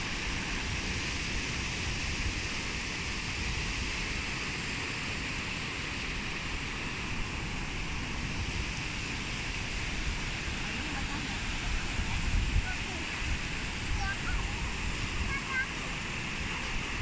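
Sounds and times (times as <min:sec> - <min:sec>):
small waves breaking on sand: 0:00.0 - 0:17.0
wind rumbling on microphone: 0:00.0 - 0:17.0.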